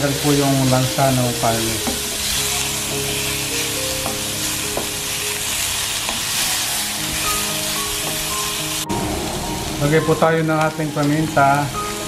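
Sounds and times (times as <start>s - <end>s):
meat sizzling in a skillet: 0.0s - 12.0s.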